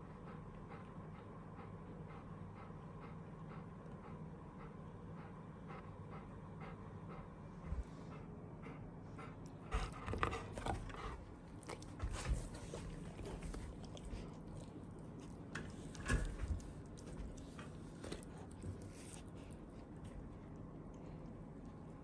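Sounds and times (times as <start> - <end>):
dog panting: 0.0 - 21.3.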